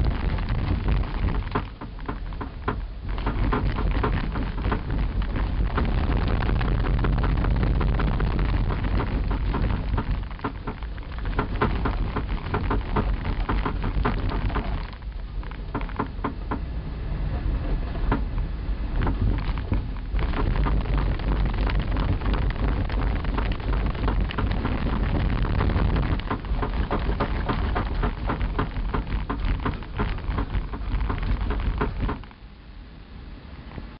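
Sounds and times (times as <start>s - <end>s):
vehicle rattling over rough ground: 0.0s - 32.4s
deep vehicle rumble: 0.0s - 32.6s.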